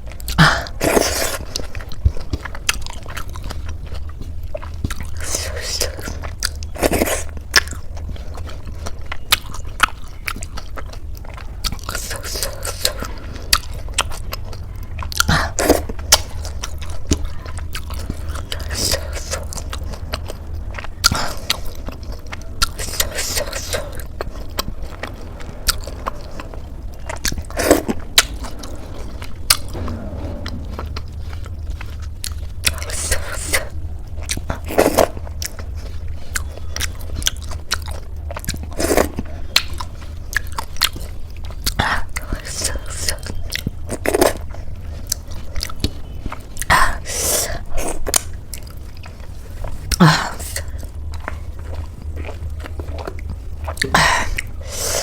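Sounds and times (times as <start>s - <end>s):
low hum: 0.0s - 46.8s, 47.6s - 55.0s
crunchy food chewing: 0.0s - 55.0s.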